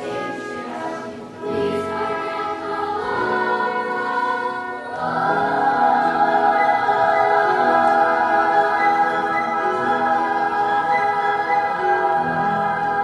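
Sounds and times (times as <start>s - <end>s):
choir singing sustained chords: 0.0s - 13.0s.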